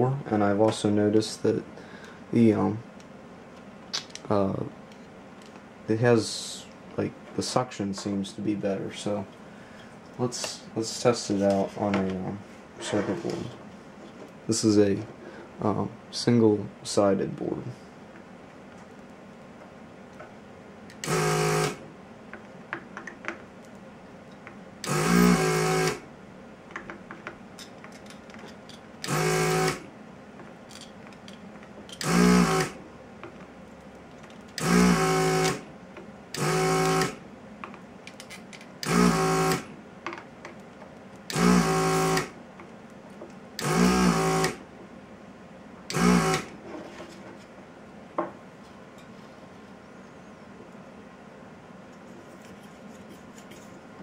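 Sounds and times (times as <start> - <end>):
desoldering vacuum pump humming: 0.0 - 46.6.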